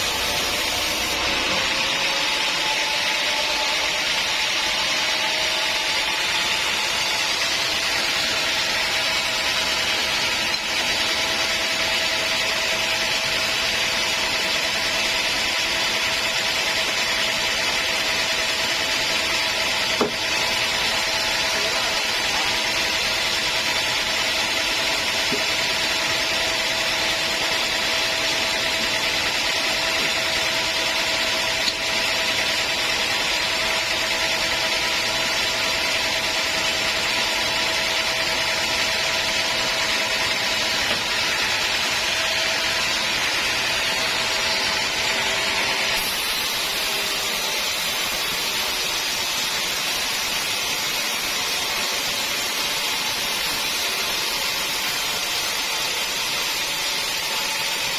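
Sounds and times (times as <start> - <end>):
sawmill saw cutting log: 0.0 - 57.9.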